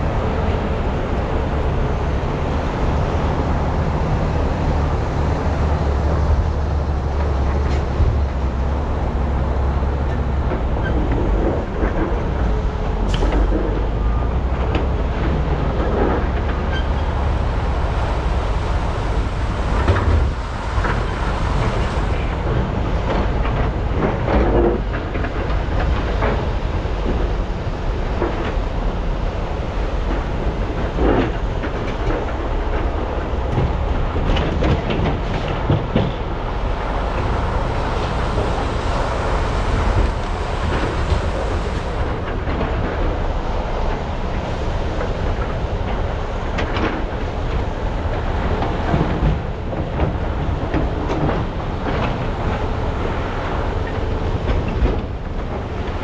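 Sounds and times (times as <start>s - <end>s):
excavator diesel engines under load: 0.0s - 56.0s.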